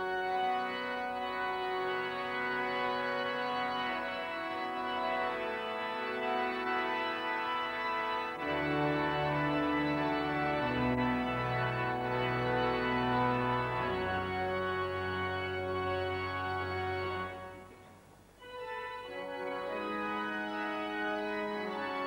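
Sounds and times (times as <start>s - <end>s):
organ chords: 0.0s - 22.0s.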